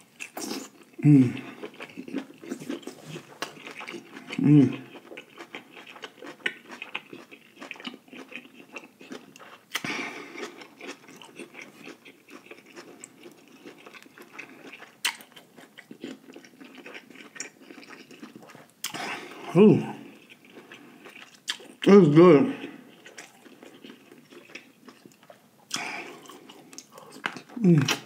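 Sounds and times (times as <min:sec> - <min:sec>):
wet chewing sounds: 0:00.0 - 0:21.9, 0:22.5 - 0:28.0.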